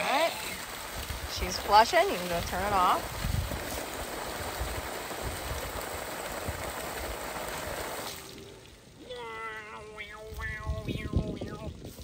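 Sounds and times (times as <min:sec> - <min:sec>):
water rushing from a pipe: 0:00.0 - 0:12.0.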